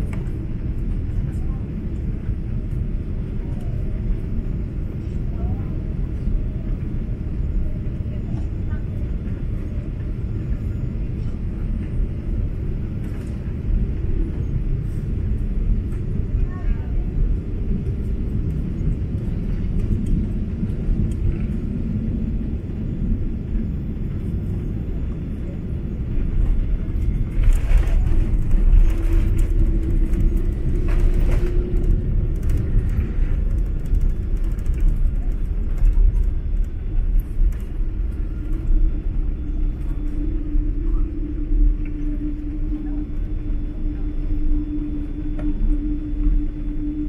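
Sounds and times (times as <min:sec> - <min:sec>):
airplane cabin engine rumble: 0:00.0 - 0:47.0.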